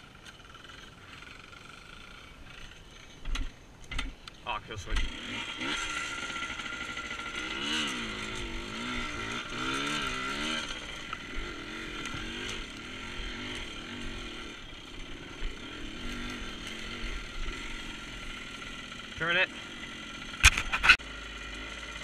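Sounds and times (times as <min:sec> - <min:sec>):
off-road motorcycle engine revving: 0:00.0 - 0:22.0.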